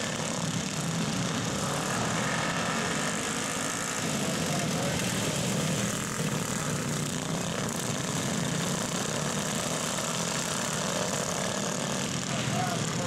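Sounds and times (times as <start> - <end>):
small engines droning: 0.0 - 13.0.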